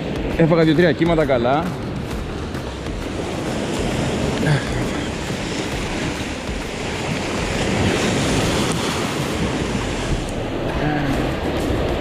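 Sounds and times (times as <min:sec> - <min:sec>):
surf breaking over rocks: 0:00.0 - 0:12.0
wind buffeting microphone: 0:00.0 - 0:12.0.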